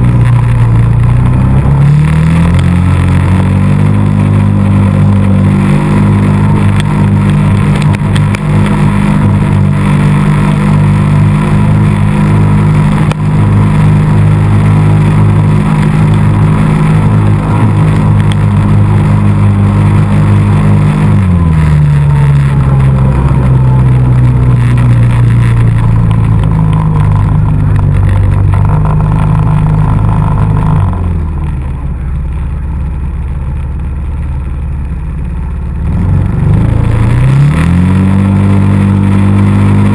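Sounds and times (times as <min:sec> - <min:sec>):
quad bike engine revving: 0:00.0 - 0:34.6, 0:35.4 - 0:39.9.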